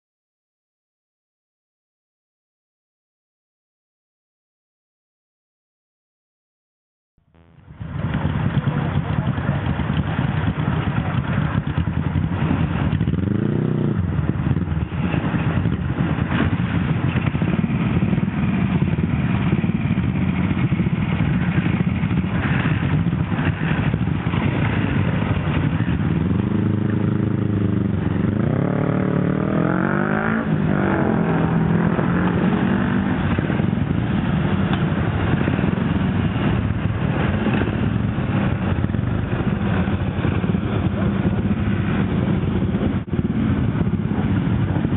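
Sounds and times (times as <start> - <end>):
motorcycle engines revving: 7.4 - 44.9.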